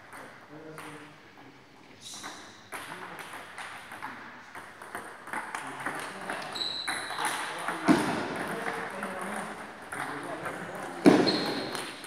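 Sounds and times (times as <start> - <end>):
table tennis balls clicking: 2.1 - 12.0.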